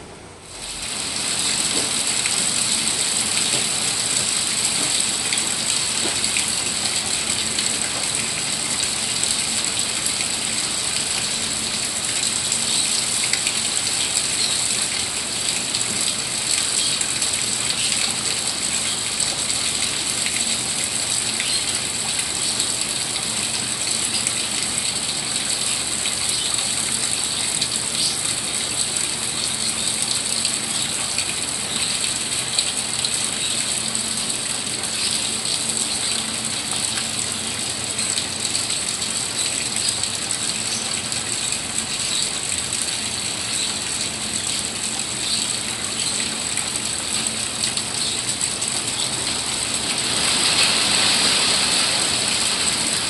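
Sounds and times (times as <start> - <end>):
rain falling on leaves: 0.6 - 53.0.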